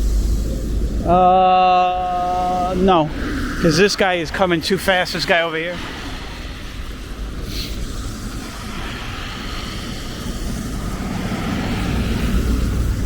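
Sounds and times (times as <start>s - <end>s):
car traffic passing: 0.0s - 13.0s
vehicle rumble: 0.0s - 13.0s.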